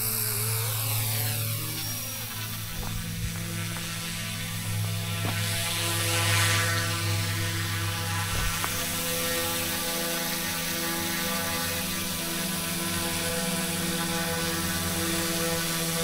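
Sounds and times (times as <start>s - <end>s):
helicopter motor whirring: 0.0s - 16.0s.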